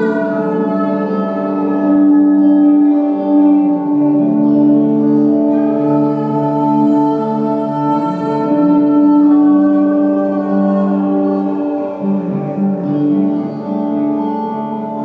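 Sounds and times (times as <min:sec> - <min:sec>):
ambient electric guitar music: 0:00.0 - 0:15.0.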